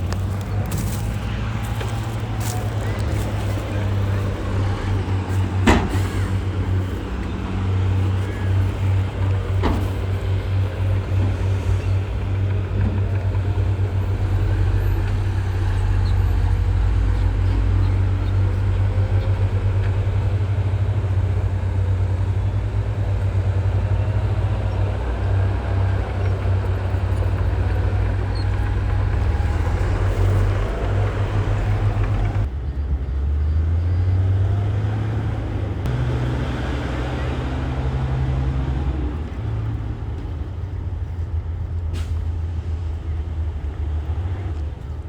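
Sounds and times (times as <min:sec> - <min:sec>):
bulldozer diesel engine rumbling: 0:00.0 - 0:45.0.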